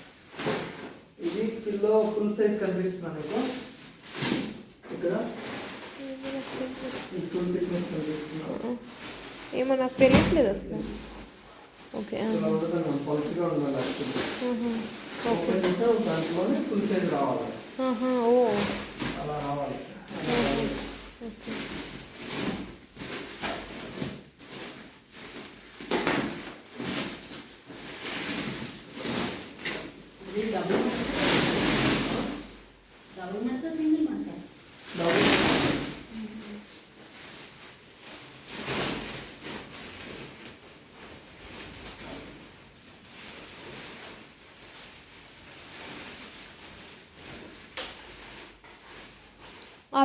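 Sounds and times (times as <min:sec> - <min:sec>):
plastic packaging crinkling: 0:00.0 - 0:50.0.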